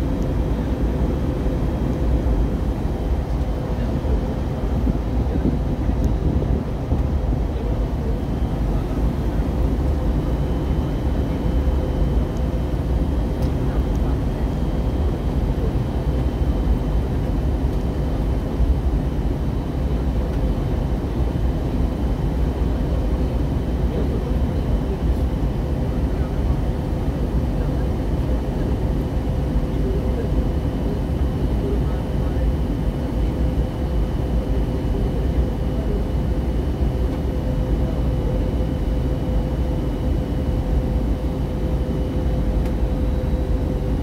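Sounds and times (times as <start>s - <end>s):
airliner cabin engine rumble: 0.0s - 44.0s.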